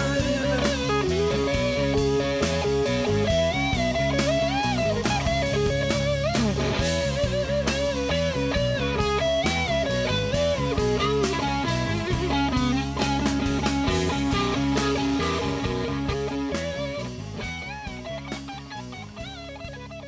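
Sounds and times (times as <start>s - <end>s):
bass guitar: 0.0s - 20.0s
drums: 0.0s - 20.0s
electric guitar blues solo: 0.0s - 20.0s.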